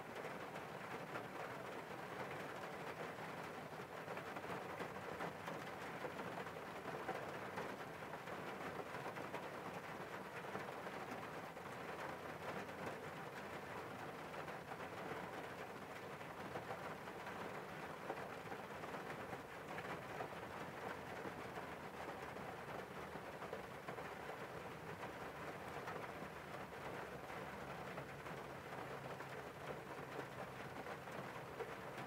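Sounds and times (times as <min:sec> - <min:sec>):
rain hitting car windows: 0:00.1 - 0:32.0.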